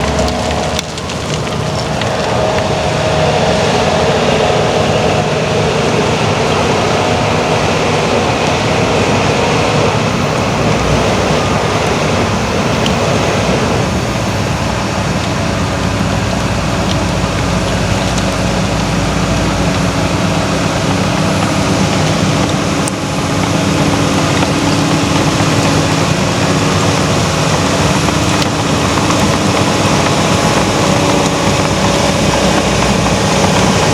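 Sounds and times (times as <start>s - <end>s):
heavy diesel machinery running: 0.0s - 33.9s.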